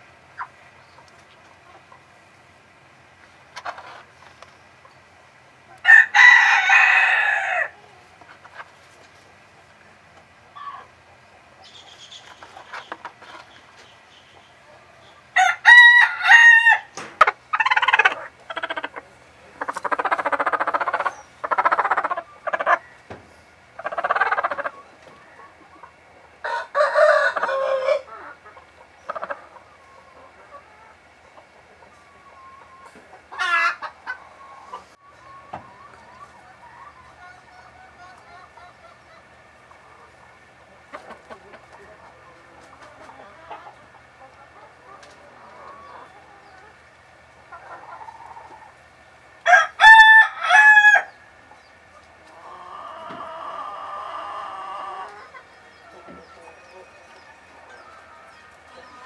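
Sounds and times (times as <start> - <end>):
chickens calling: 0.0 - 59.0.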